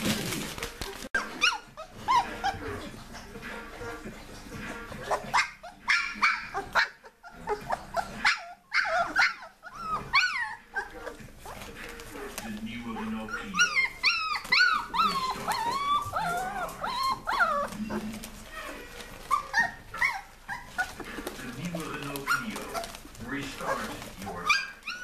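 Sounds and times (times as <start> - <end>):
puppies yipping and whining: 0.8 - 25.0.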